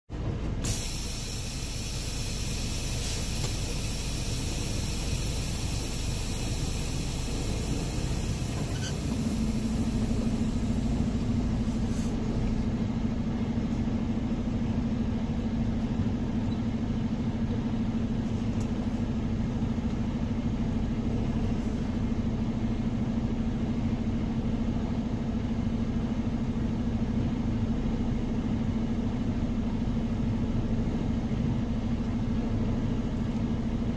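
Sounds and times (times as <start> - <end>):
diesel truck engine running: 0.1 - 33.9
steady low hum: 0.1 - 33.9.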